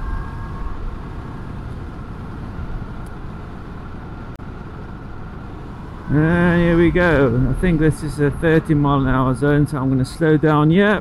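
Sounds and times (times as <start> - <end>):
wind rush: 0.0 - 10.0
tyre noise on road: 0.0 - 11.0.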